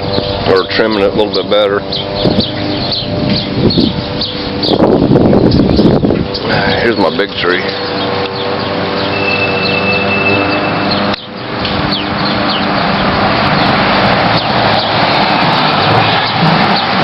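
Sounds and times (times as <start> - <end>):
road traffic going by: 0.0 - 17.0
vehicle engine hum: 0.0 - 17.0.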